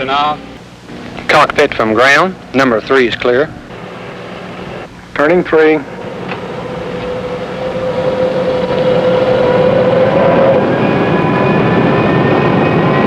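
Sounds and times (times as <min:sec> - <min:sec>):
jet engine spooling up: 0:00.0 - 0:13.0.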